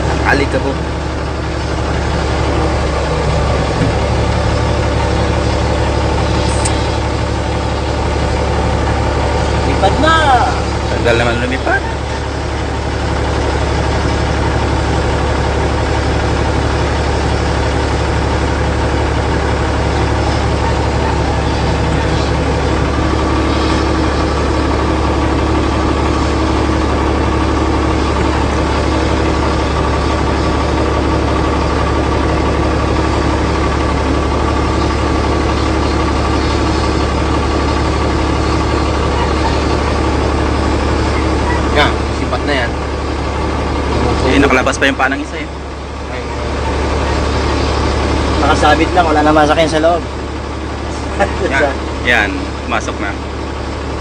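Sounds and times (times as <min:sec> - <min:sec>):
helicopter engine idling: 0:00.0 - 0:54.0.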